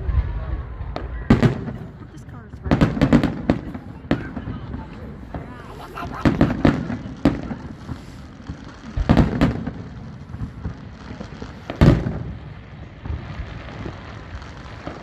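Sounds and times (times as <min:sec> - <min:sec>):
fireworks banging: 0:00.0 - 0:15.0
low crackling: 0:00.0 - 0:15.0.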